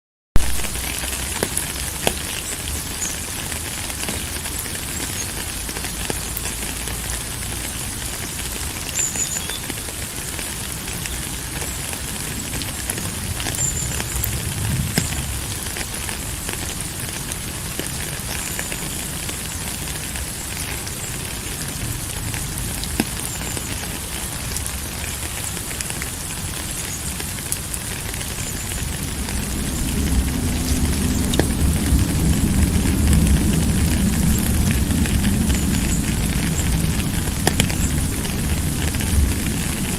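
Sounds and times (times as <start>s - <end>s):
steady rain falling: 0.4s - 39.9s.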